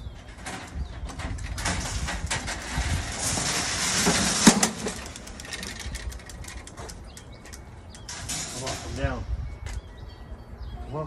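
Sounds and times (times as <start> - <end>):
metal cargo carrier rattling: 0.2 - 9.2.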